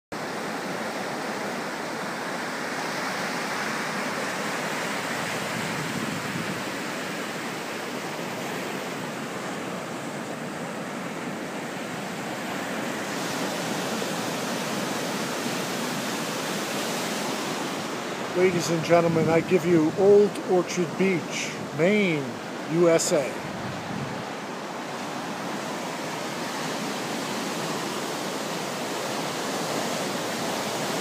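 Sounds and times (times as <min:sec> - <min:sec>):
ocean surf breaking on beach: 0:00.2 - 0:31.0.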